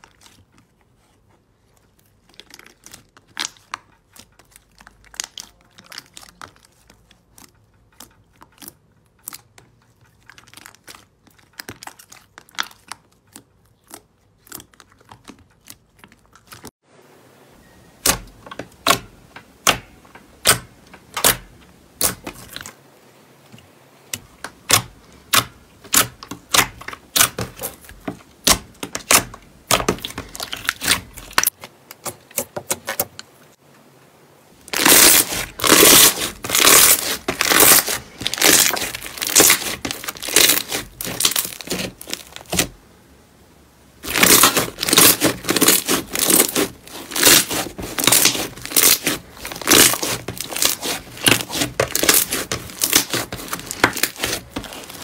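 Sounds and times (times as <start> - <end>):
slime crackling and popping: 1.8 - 16.7, 18.0 - 22.7, 24.5 - 31.6, 34.6 - 42.8, 44.0 - 55.0.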